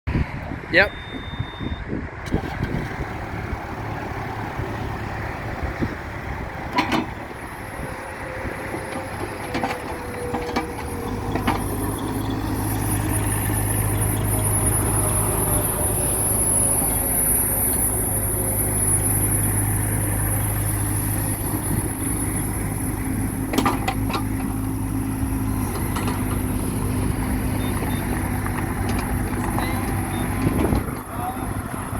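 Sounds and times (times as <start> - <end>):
diesel excavator engine running: 0.2 - 31.9.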